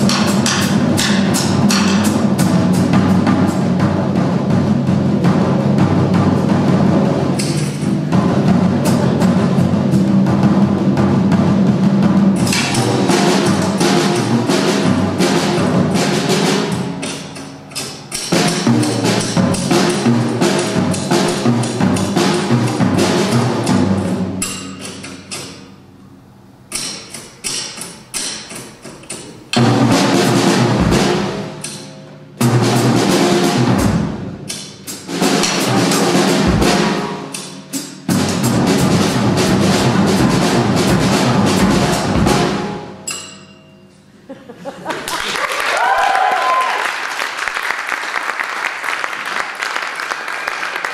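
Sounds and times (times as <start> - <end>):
drums and cymbals: 0.0 - 44.3.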